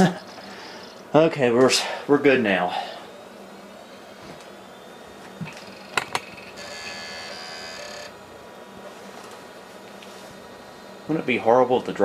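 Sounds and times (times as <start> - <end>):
steady buzzy tone: 0.0 - 12.0.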